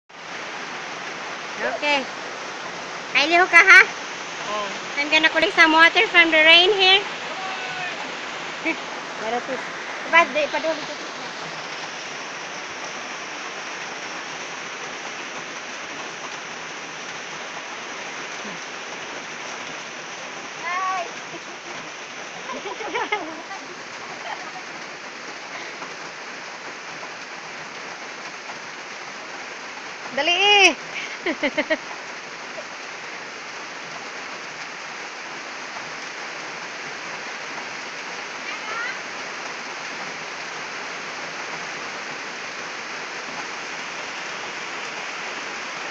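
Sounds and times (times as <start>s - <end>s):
rain on plastic containers: 0.1s - 45.9s
rain on wet ground: 0.1s - 45.9s.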